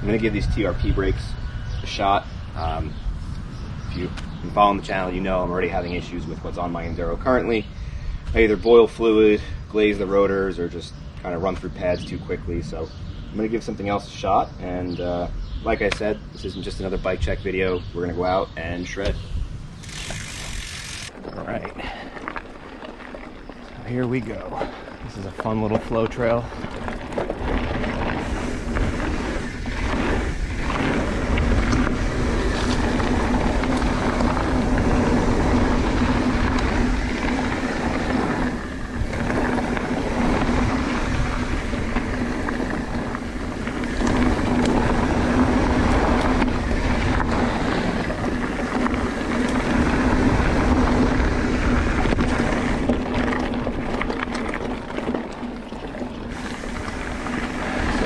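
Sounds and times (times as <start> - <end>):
tyres rolling on dirt: 0.0 - 58.0
wind rushing over microphone: 0.0 - 58.0.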